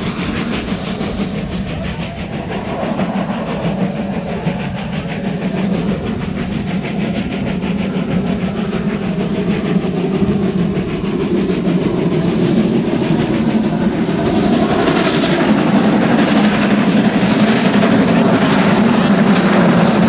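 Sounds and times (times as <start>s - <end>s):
steam locomotive exhaust: 0.0s - 20.0s.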